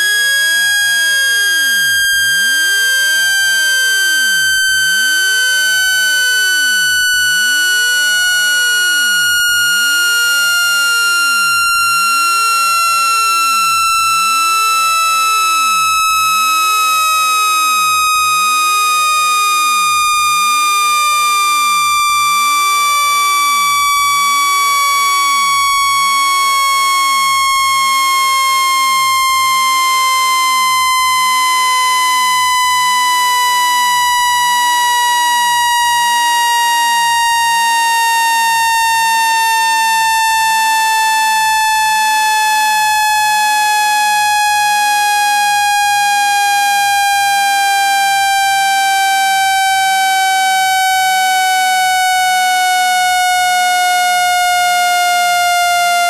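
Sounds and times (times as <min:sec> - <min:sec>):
buzzy tone gliding down in pitch: 0:00.0 - 0:46.8.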